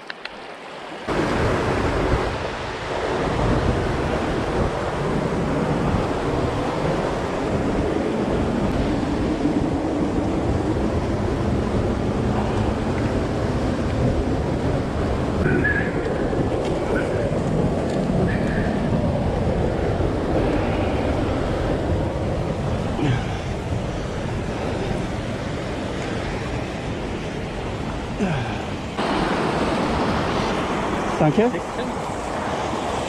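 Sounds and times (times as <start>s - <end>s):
stream rushing over rocks: 0.0s - 10.9s, 11.5s - 33.0s.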